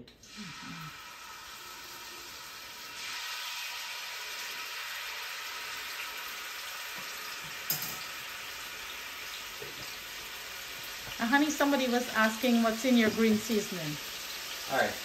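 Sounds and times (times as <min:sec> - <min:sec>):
seasoning sizzling in hot oil: 0:00.3 - 0:15.0.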